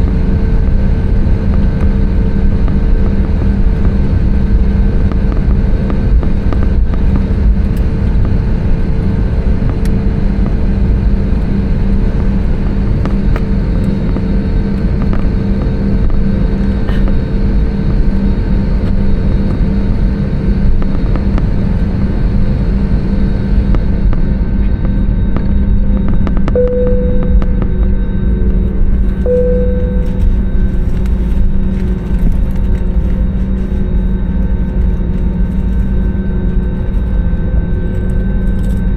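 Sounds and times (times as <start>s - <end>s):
jet engines rumbling: 0.0s - 38.6s
constant cabin hum: 0.0s - 38.9s.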